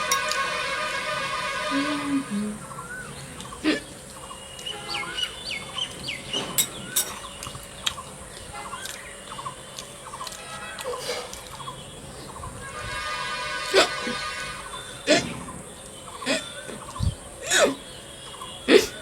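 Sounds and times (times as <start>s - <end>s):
small birds chirping: 1.8s - 19.0s.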